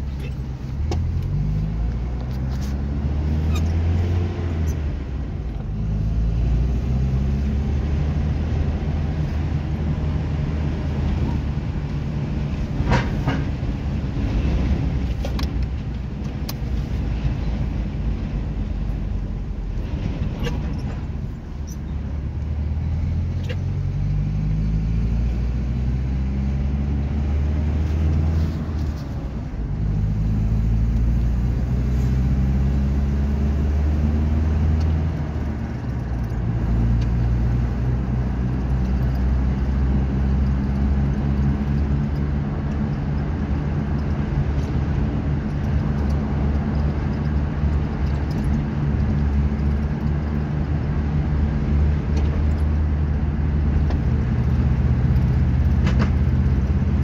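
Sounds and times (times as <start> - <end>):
car engine accelerating: 0.0 - 57.0
road noise in cabin: 0.0 - 57.0.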